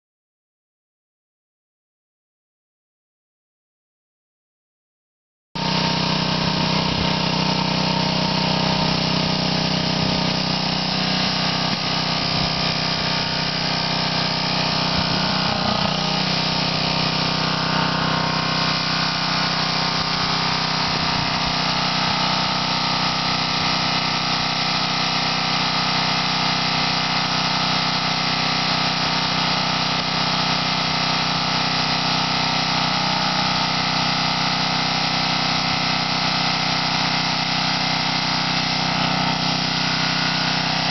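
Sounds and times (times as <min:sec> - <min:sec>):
lawn mower engine running: 0:05.6 - 0:40.9.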